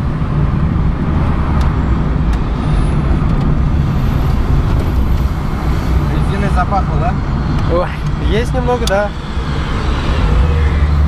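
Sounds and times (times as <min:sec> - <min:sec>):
car engine drone: 0:00.0 - 0:11.0
road rumble: 0:00.0 - 0:11.0.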